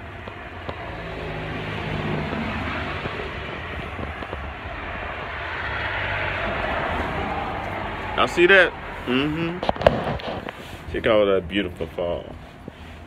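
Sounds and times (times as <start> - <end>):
car driving by: 0.0 - 10.8.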